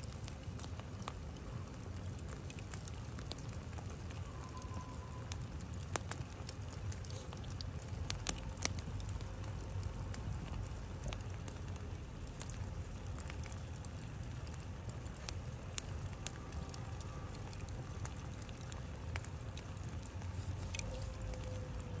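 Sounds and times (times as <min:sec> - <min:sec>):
embers crackling and popping: 0:00.0 - 0:22.0.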